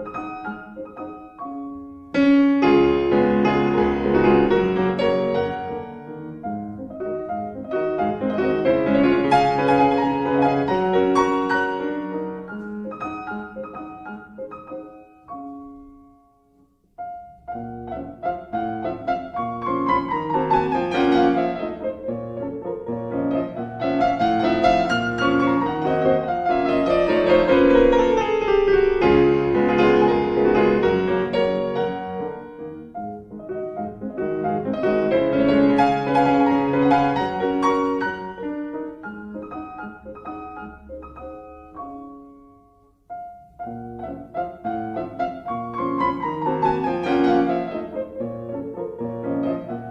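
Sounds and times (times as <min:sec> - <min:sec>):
piano music: 0:00.0 - 0:49.9.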